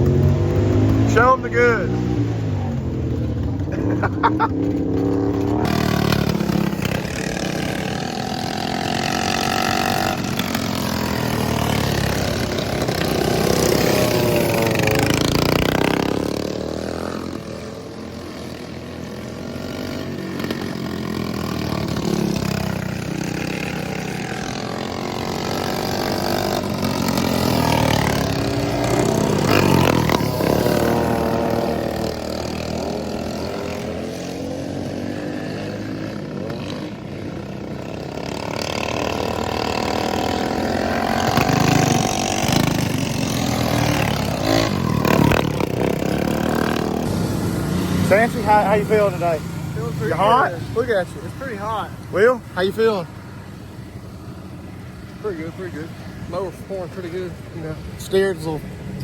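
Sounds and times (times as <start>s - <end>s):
racing lawnmower engines revving: 0.0s - 59.0s.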